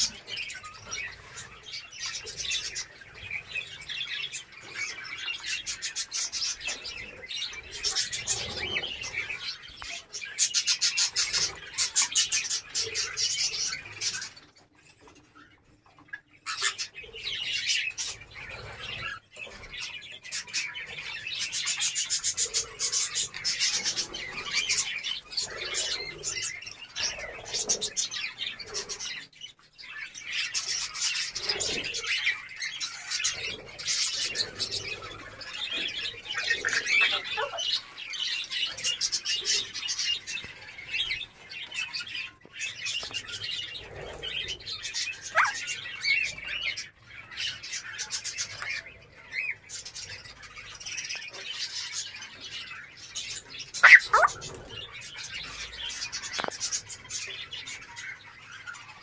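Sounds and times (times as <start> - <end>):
parrots chirping and chattering: 0.0 - 59.0.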